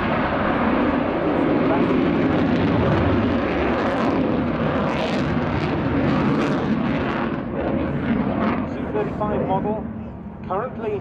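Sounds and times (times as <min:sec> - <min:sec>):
fighter jet engine roar: 0:00.0 - 0:11.0.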